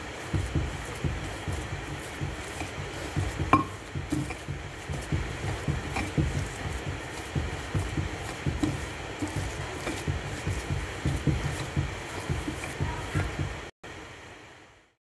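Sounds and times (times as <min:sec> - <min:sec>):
pestle knocking on stone: 0:00.0 - 0:13.7
pestle pounding potatoes: 0:00.0 - 0:13.7.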